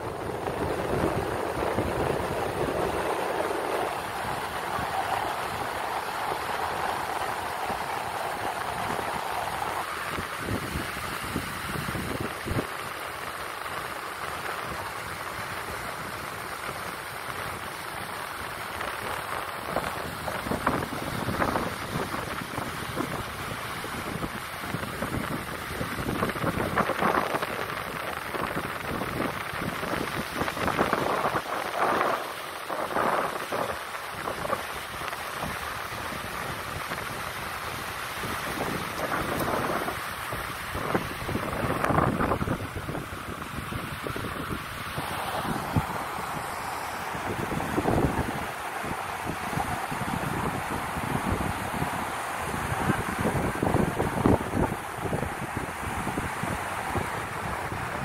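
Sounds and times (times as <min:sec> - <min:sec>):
low surf on beach: 0:00.0 - 0:58.0
wind on microphone: 0:00.0 - 0:58.0.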